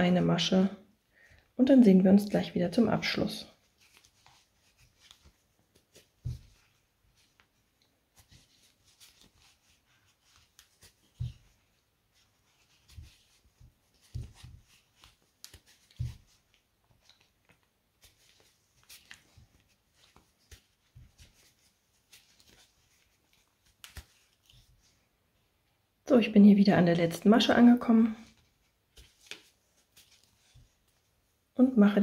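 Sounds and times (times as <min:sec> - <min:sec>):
crochet cord rustling: 0:02.4 - 0:25.5, 0:26.9 - 0:31.6.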